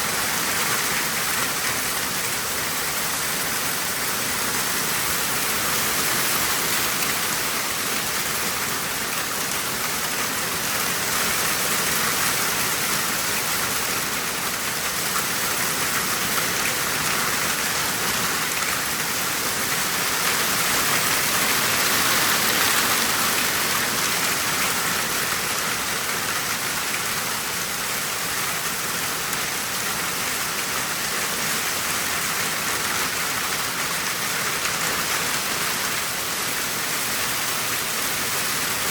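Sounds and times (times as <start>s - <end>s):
heavy rain and hail pelting: 0.0s - 38.9s.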